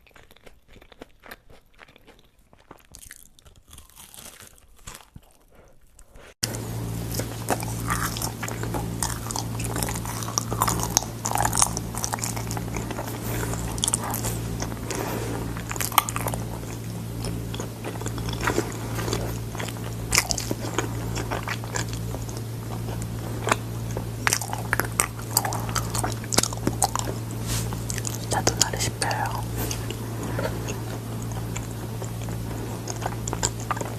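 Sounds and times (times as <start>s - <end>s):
person chewing crunchy food: 0.0s - 33.9s
steady low hum: 6.4s - 33.9s.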